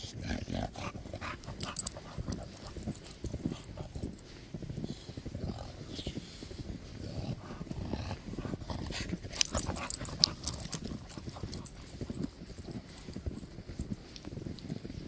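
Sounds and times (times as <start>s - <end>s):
footsteps crunching in snow: 1.4s - 15.0s.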